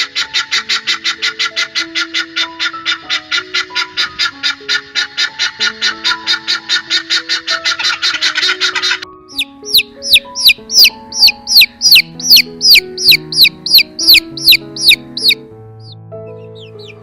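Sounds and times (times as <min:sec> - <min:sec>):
background music: 0:00.0 - 0:17.0
chick peeping: 0:00.0 - 0:17.0.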